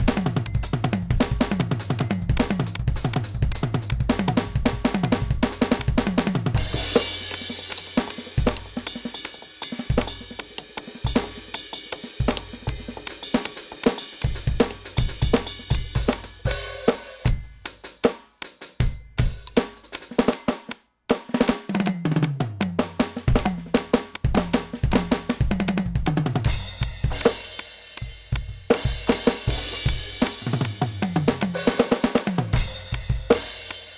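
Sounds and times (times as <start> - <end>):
electronic drum kit groove: 0.0 - 33.9.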